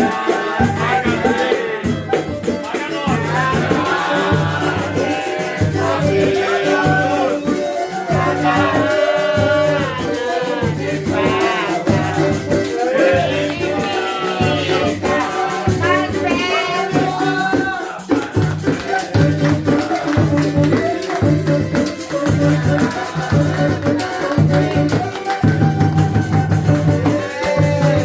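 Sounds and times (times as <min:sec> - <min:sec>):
rattling shaker: 0:00.0 - 0:28.0.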